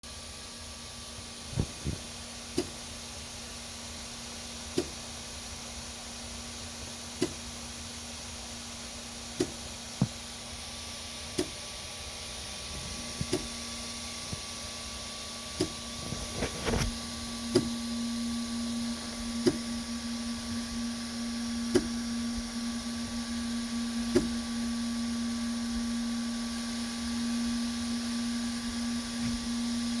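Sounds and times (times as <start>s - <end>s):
printer motor hum: 0.1s - 30.0s.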